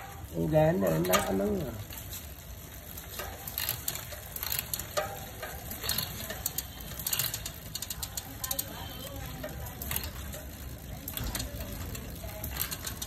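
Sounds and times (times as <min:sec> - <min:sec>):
bicycle chain running over gears: 0:00.0 - 0:13.0.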